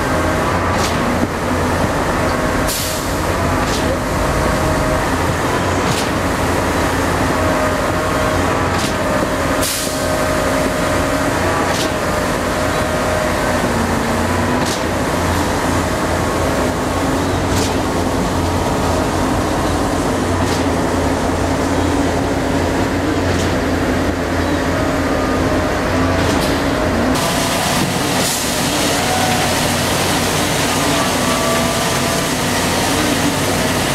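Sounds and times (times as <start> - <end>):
heavy machinery engine drone: 0.0 - 33.9.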